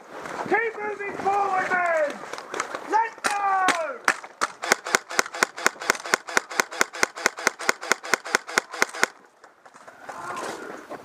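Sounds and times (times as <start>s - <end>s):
running footsteps: 0.1s - 11.0s.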